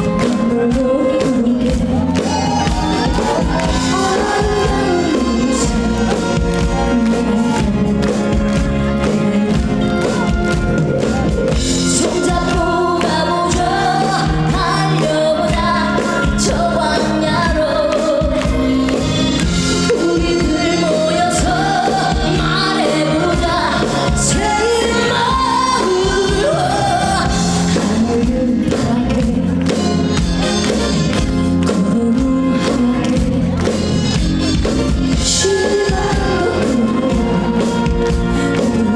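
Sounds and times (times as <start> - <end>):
woman singing: 0.0 - 10.7, 11.5 - 30.5, 31.1 - 38.9
loud musical accompaniment: 0.0 - 38.9.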